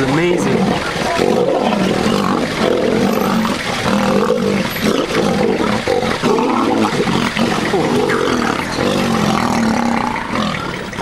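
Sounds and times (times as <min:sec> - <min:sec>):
lions roaring and fighting: 0:00.0 - 0:11.0.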